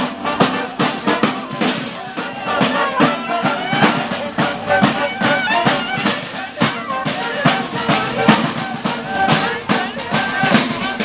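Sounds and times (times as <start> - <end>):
brass and wind melody: 0.0 - 11.0
drums keeping a steady beat: 0.0 - 11.0.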